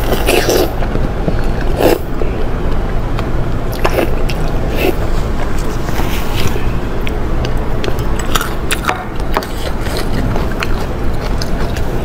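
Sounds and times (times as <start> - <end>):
biting and chewing soft wet food: 0.0 - 12.0
low background rumble: 0.0 - 12.0.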